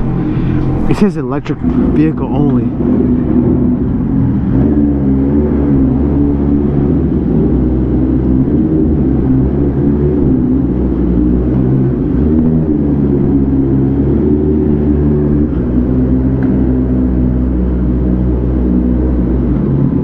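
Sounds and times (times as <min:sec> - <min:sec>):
vehicle engine running at low revs: 0:00.0 - 0:20.0.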